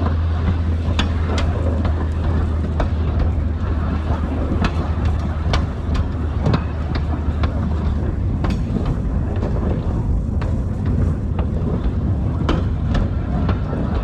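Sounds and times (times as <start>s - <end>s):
train rumbling along tracks: 0.0s - 14.0s.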